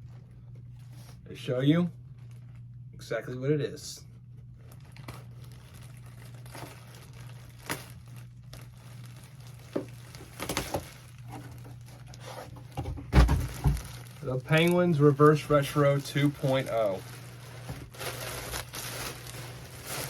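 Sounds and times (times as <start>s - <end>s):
plastic packaging crinkling: 2.0s - 2.8s, 4.3s - 20.0s.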